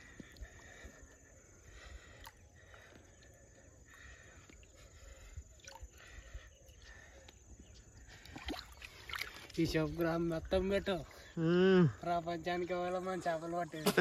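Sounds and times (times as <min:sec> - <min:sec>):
small water sounds: 0:00.0 - 0:13.7.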